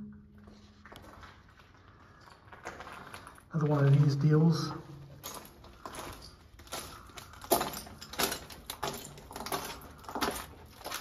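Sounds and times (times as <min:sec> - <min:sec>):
footsteps crunching on gritty debris: 0:00.4 - 0:11.0.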